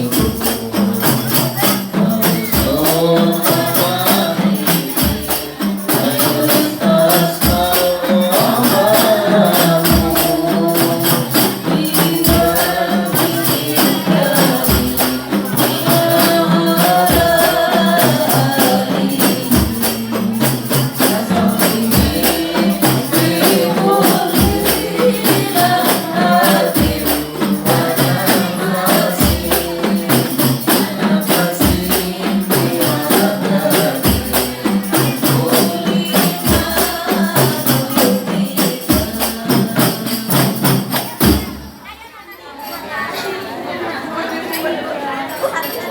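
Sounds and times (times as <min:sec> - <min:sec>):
frame drums with jingles: 0:00.0 - 0:42.9.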